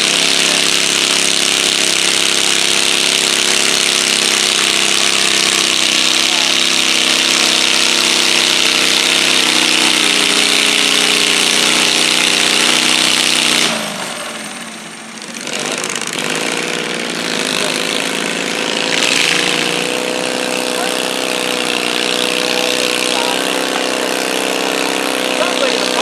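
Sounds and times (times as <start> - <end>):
garden tractor engine revving: 0.0 - 26.0.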